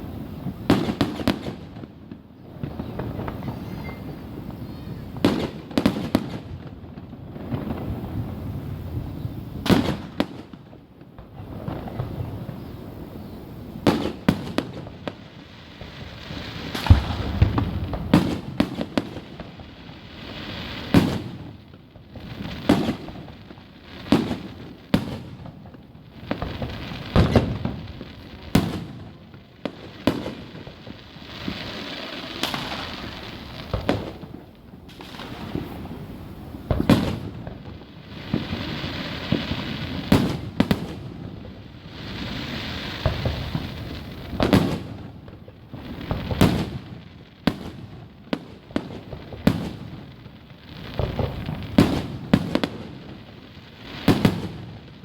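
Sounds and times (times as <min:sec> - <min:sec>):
fireworks booming: 0:00.0 - 0:55.0
fireworks crackle: 0:00.0 - 0:55.0.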